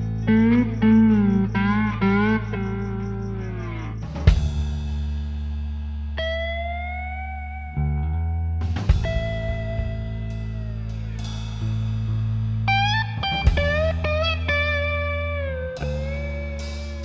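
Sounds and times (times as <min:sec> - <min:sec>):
drums: 0:00.0 - 0:07.3, 0:08.6 - 0:17.0
bass line: 0:00.0 - 0:17.0.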